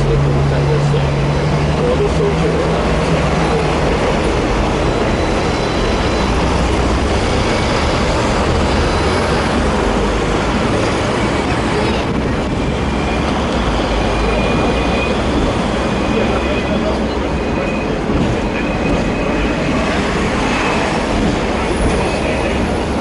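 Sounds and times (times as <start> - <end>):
road traffic: 0.0 - 23.0
tram wheels rumbling on rails: 0.0 - 23.0.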